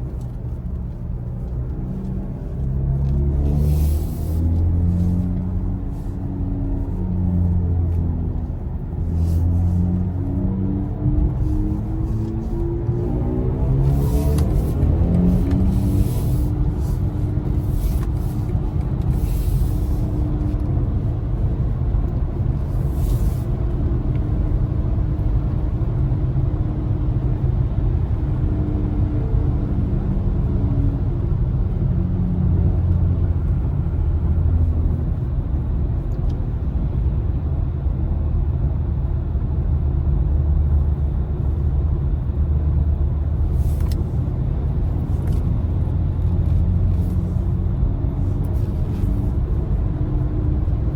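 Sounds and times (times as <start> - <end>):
road and tyre rumble: 0.0 - 50.9.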